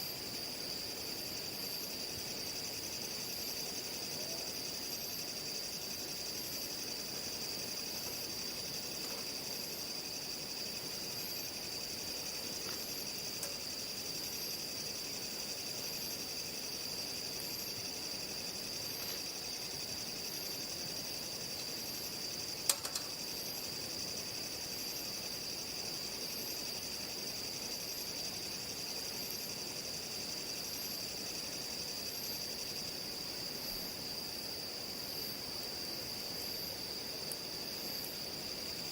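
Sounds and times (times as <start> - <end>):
crickets and insects trilling: 0.0 - 38.9.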